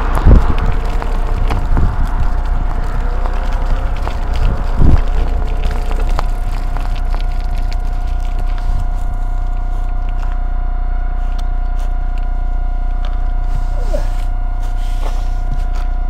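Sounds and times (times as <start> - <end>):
wind rumble on microphone: 0.0 - 14.6
electric motor whine: 0.0 - 16.0.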